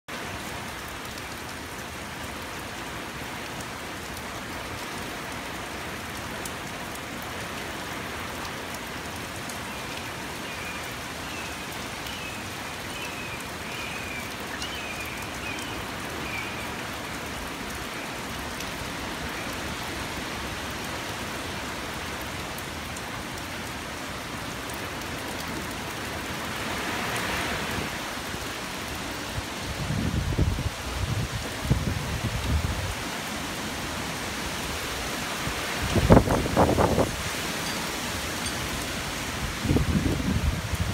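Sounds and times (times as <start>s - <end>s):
heavy rain pattering: 0.1s - 40.9s.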